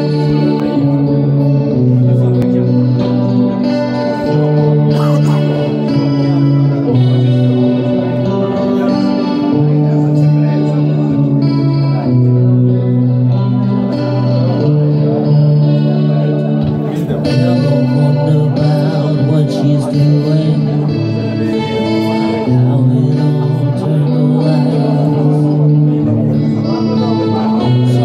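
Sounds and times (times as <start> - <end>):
electric guitar chords: 0.0 - 28.0
live band music: 0.0 - 28.0.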